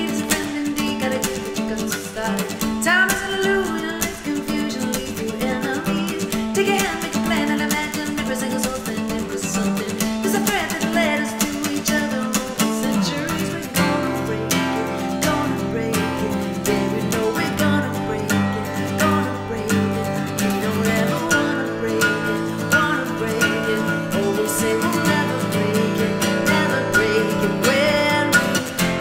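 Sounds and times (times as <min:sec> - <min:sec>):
acoustic guitar strumming: 0:00.0 - 0:29.0
woman singing: 0:00.0 - 0:29.0.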